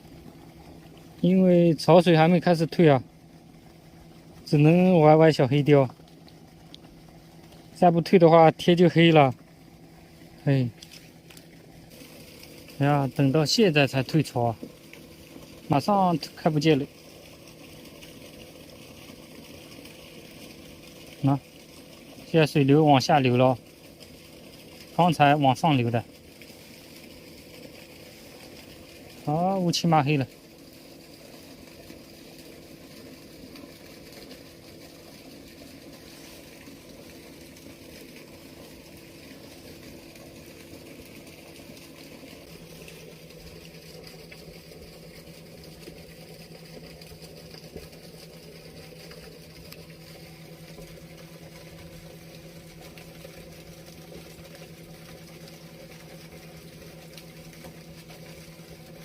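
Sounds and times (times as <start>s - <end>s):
water flowing through sluice gate: 0.0s - 59.0s.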